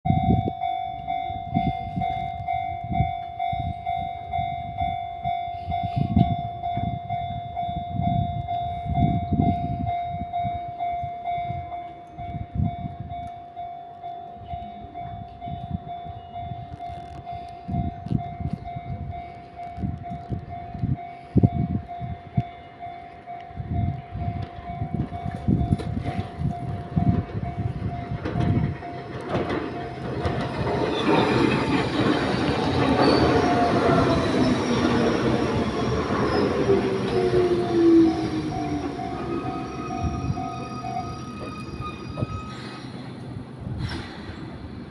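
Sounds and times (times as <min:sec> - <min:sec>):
level crossing alarm ringing: 0:00.1 - 0:19.7, 0:20.5 - 0:42.7
approaching train: 0:00.1 - 0:44.9.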